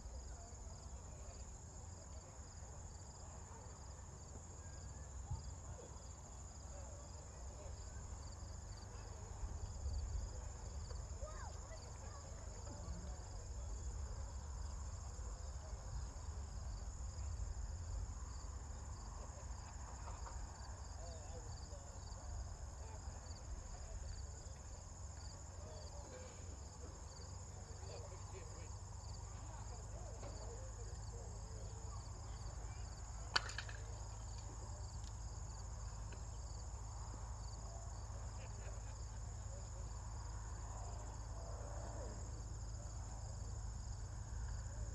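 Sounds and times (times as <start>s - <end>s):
insects chirring: 0.2s - 44.9s.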